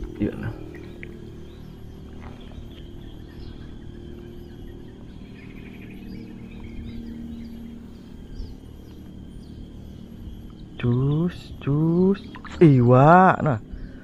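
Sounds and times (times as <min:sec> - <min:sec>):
low background hum: 0:00.0 - 0:14.0
small birds chirping: 0:00.0 - 0:14.0.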